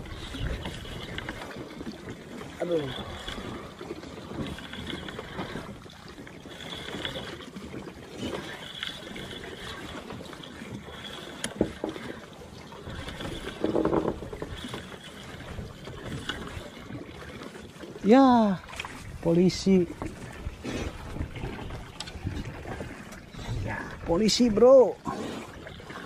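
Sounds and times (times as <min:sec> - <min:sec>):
boat background noise: 0:00.0 - 0:26.0.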